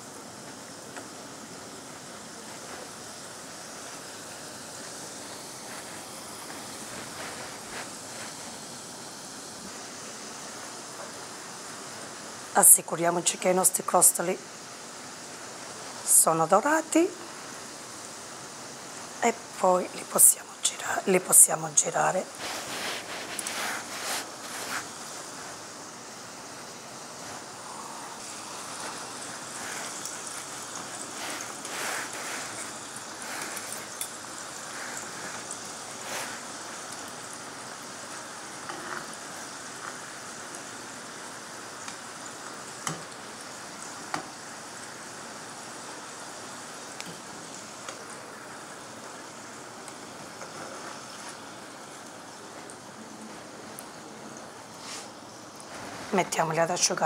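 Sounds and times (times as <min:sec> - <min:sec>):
dough sizzling in hot oil: 0:00.0 - 0:57.0.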